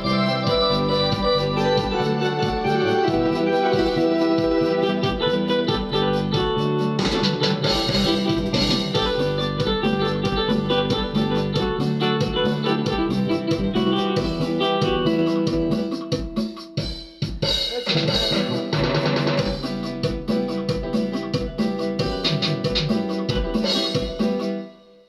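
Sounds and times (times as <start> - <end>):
plucked guitar melody: 0.0 - 16.8, 17.8 - 24.8
steady drum beat: 0.0 - 24.6.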